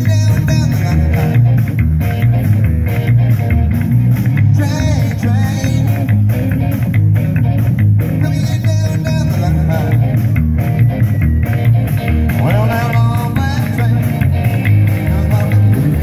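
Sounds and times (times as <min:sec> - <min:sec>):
live rock and roll band: 0:00.0 - 0:16.0
upright bass notes: 0:00.0 - 0:16.0.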